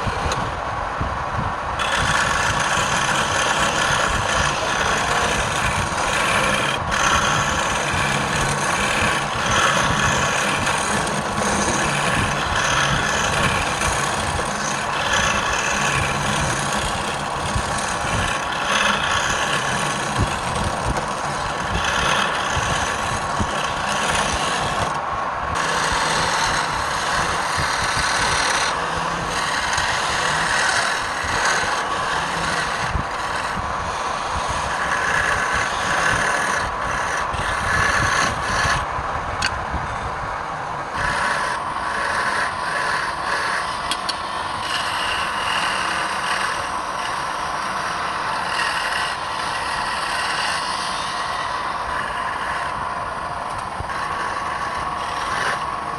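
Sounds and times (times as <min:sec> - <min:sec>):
tool scraping spinning wood: 0:00.0 - 0:55.9
wood lathe humming: 0:00.0 - 0:55.9.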